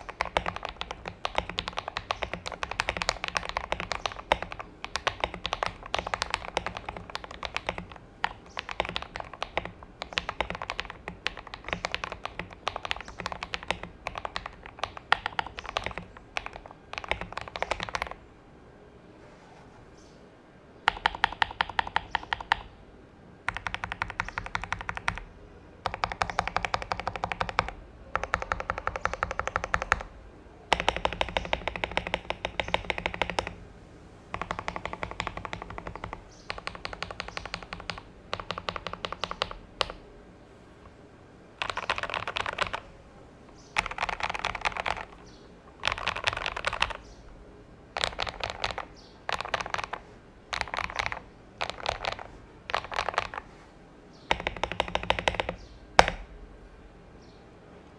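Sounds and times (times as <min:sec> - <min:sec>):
mechanical keyboard typing: 0:00.0 - 0:18.2, 0:20.8 - 0:22.8, 0:23.5 - 0:30.1, 0:30.7 - 0:33.6, 0:34.3 - 0:40.1, 0:41.6 - 0:42.9, 0:43.5 - 0:47.2, 0:47.9 - 0:53.6, 0:54.3 - 0:56.3.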